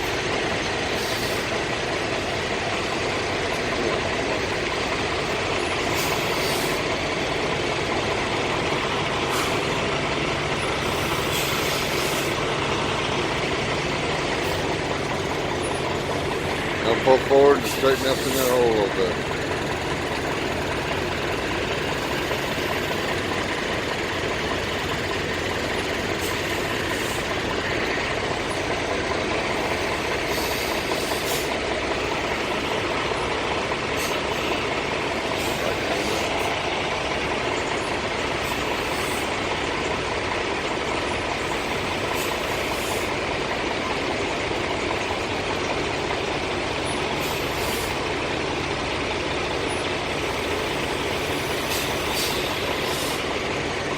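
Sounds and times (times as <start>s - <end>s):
diesel truck engine running: 0.0s - 53.9s.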